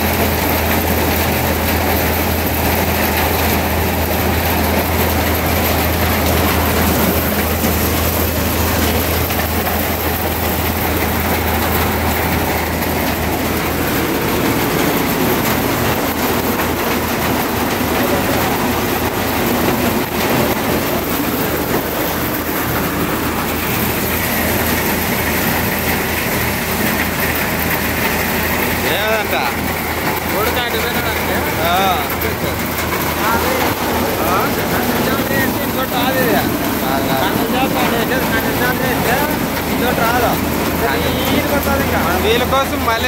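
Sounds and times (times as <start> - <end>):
low motor hum: 0.0 - 43.0
machine clattering: 0.0 - 43.0.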